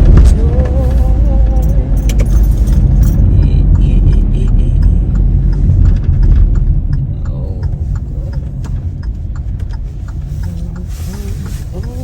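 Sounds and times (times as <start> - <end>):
car rumble from inside cabin: 0.0 - 12.0
ticking and clicking rattles: 0.0 - 12.0.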